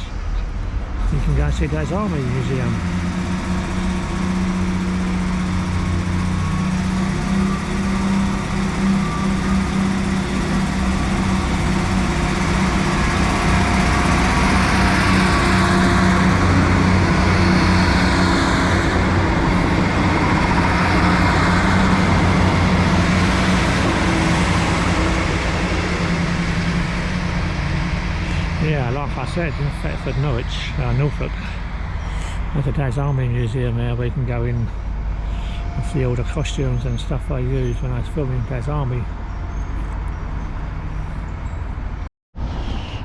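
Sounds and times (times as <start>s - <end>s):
diesel train engines humming: 0.0s - 42.1s.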